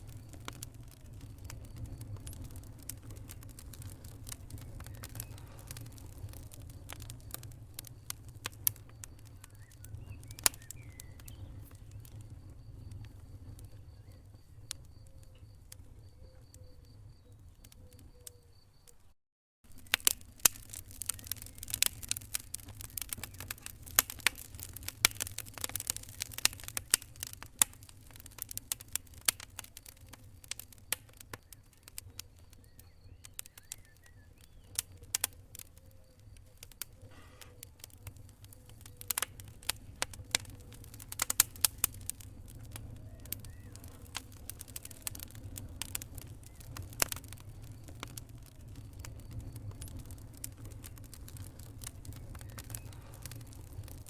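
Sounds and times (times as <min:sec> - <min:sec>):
wood fire crackling and popping: 0:00.0 - 0:18.4, 0:19.6 - 0:54.0
low rumble of flames: 0:00.0 - 0:19.0, 0:19.6 - 0:54.0.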